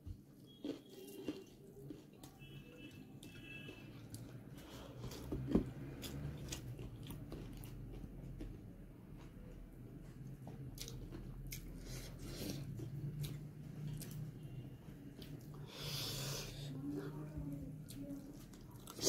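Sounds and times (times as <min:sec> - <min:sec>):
chewing and biting food: 0:00.5 - 0:15.6, 0:17.8 - 0:19.0.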